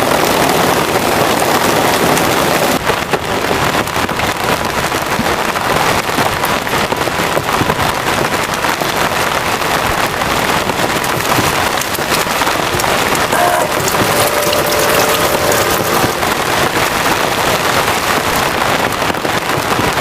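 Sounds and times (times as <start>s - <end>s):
heavy rain falling: 0.0s - 20.0s
sharp raindrop hits: 0.0s - 20.0s.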